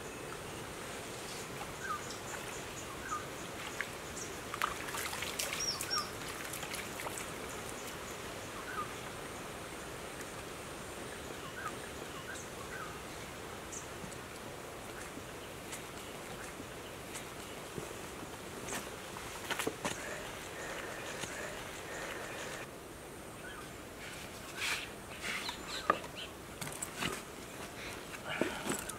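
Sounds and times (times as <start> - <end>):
steady background hiss: 0.0 - 28.9.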